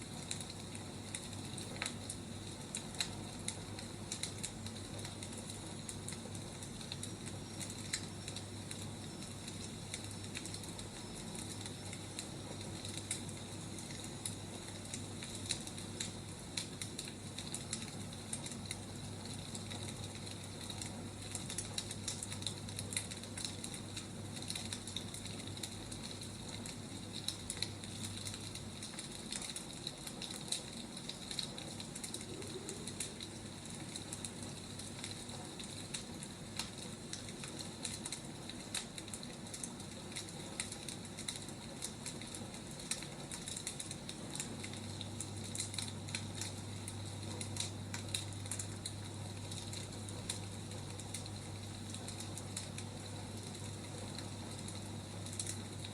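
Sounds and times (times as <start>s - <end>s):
firewood crackling: 0.0s - 55.9s
low steady hum: 0.0s - 55.9s.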